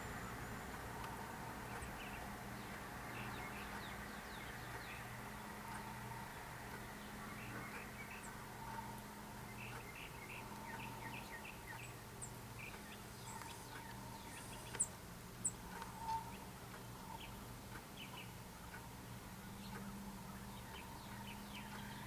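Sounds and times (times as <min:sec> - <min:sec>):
birds chirping: 0:01.6 - 0:17.4, 0:19.4 - 0:22.0.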